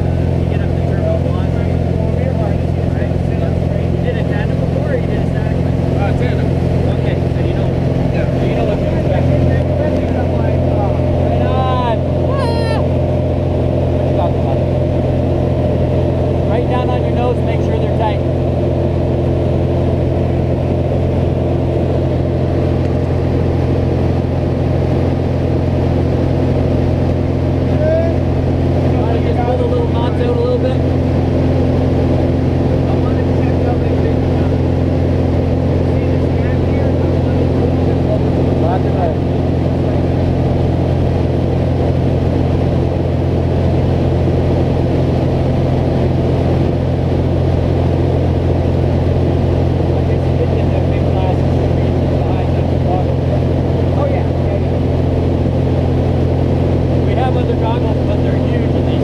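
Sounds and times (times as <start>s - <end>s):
light aircraft engine and propeller drone: 0.0s - 59.0s.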